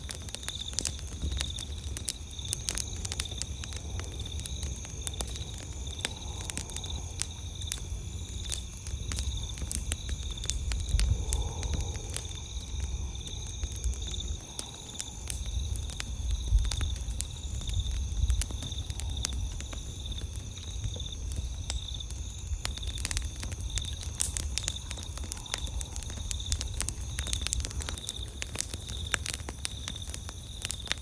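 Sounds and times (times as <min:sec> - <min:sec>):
campfire crackling and popping: 0:00.0 - 0:31.0
night insects trilling: 0:00.0 - 0:31.0.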